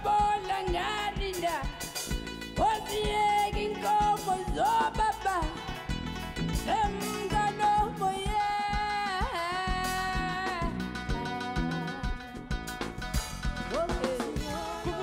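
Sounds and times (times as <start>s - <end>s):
woman singing: 0.0s - 5.9s, 6.5s - 12.6s, 13.7s - 15.0s
drums beating: 0.0s - 15.0s
guitar chords: 0.0s - 15.0s.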